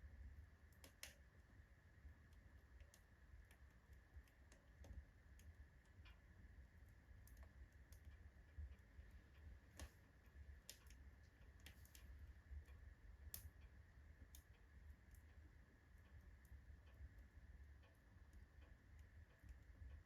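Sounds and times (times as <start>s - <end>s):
logs crackling in a fireplace: 0.0s - 20.0s.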